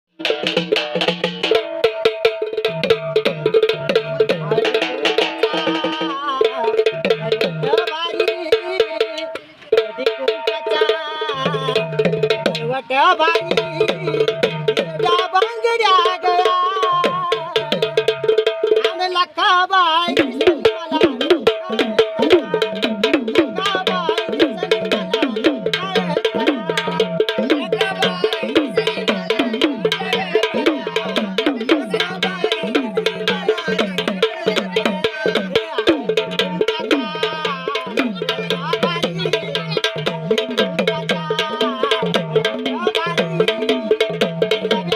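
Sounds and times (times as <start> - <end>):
drums beaten with sticks: 0.1 - 44.9.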